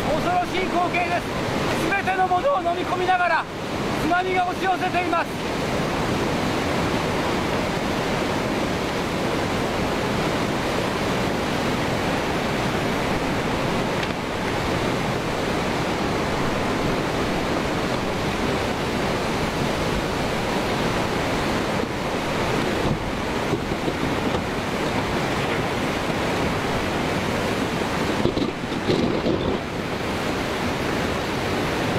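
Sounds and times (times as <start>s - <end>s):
floodwater rushing and churning: 0.0s - 31.9s.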